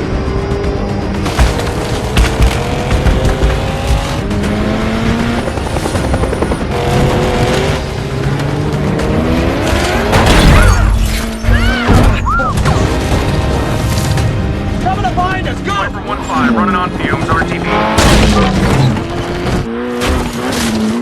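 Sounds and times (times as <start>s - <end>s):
car engines revving: 0.0s - 21.0s
film score: 0.0s - 21.0s.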